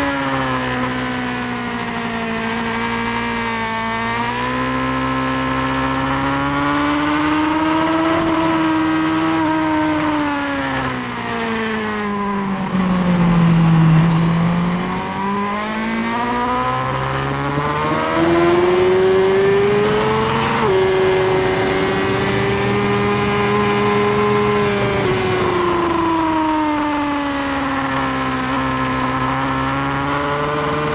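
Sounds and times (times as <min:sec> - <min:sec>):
motorcycle engine running hard: 0:00.0 - 0:30.9.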